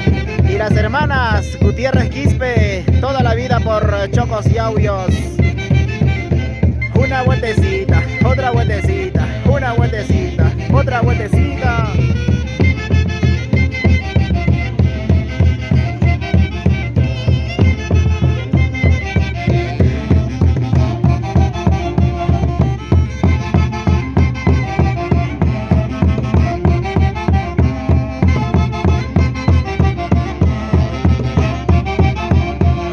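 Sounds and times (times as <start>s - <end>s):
festive dance music band: 0.0s - 32.9s.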